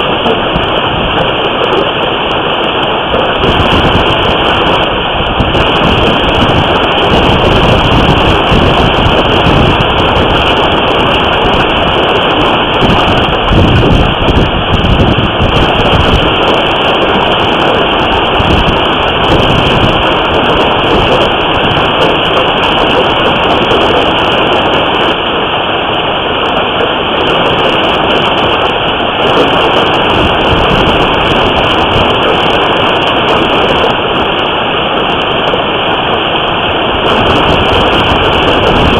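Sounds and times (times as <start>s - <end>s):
hail and rain pounding: 0.0s - 38.9s
low rumbling of wind or thunder: 0.0s - 38.9s.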